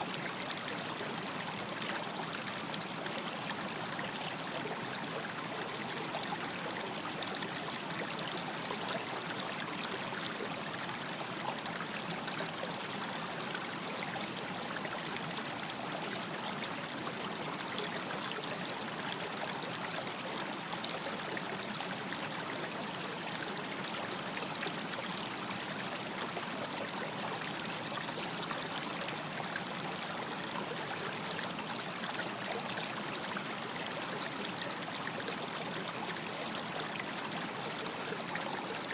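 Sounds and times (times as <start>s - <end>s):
water flowing over stones: 0.0s - 38.9s.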